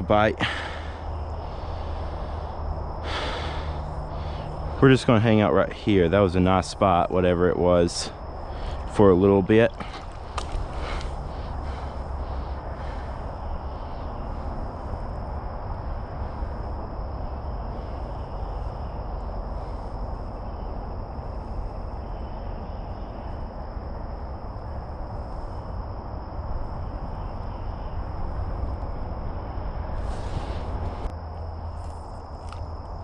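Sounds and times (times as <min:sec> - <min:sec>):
insects trilling: 0:00.0 - 0:33.0
low rumble: 0:00.0 - 0:33.0.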